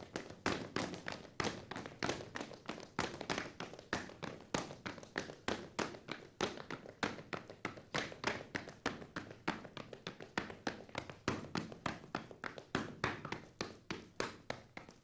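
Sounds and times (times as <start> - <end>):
hand claps: 0.0 - 15.0
rhythmic foot stomps: 0.0 - 15.0.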